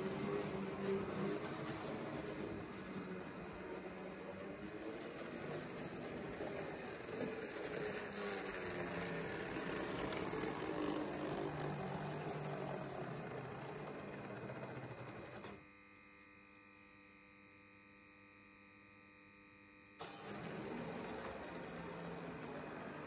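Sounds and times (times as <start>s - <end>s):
model train motor humming: 0.0s - 15.7s, 20.0s - 23.0s.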